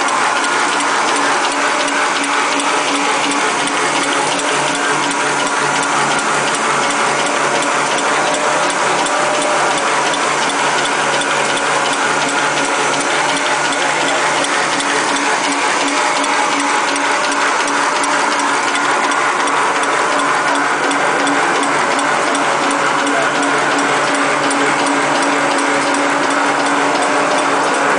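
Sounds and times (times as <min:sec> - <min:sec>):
machine hum: 0:00.0 - 0:27.9
paper machine clattering: 0:00.0 - 0:27.9.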